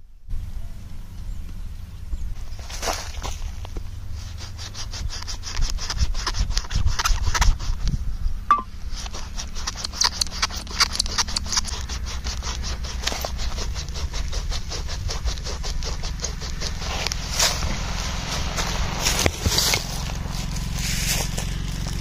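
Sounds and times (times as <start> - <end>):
wooden drill rubbing and scraping: 2.4 - 8.0, 8.8 - 22.0.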